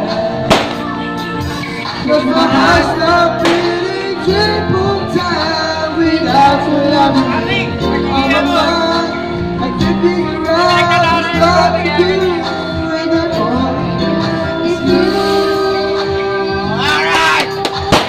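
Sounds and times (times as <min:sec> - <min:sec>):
backing track music: 0:00.0 - 0:18.0
man singing into a microphone: 0:01.8 - 0:16.9.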